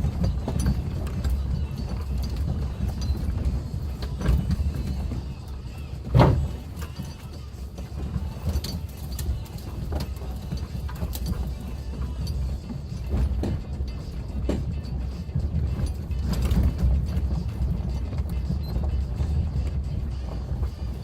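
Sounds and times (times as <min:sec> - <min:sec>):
knocks and rattles: 0:00.0 - 0:21.0
vehicle engine and road rumble: 0:00.0 - 0:21.0.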